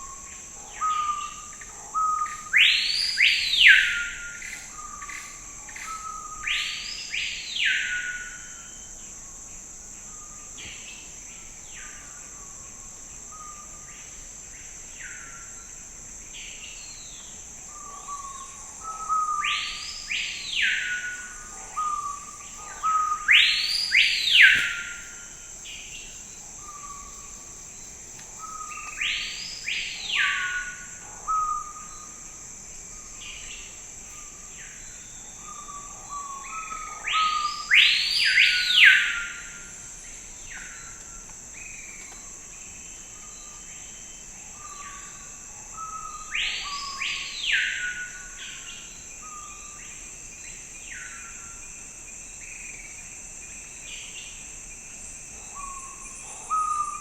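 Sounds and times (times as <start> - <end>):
insects droning: 0.0 - 57.0
songbird singing: 0.0 - 57.0.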